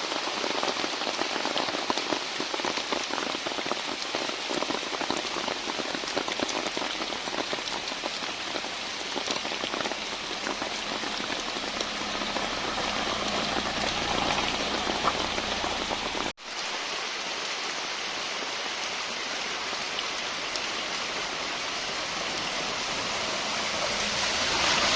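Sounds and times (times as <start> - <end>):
rain pattering on a car: 0.0 - 24.9.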